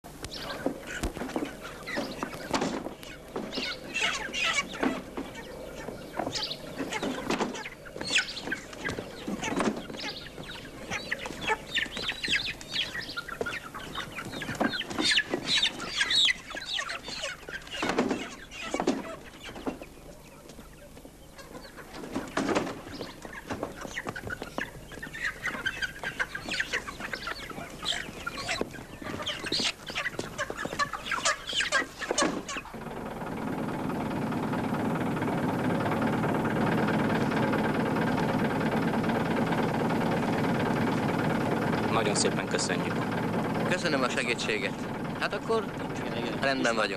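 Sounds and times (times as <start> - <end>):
chickens clucking and squawking: 0.1 - 46.9.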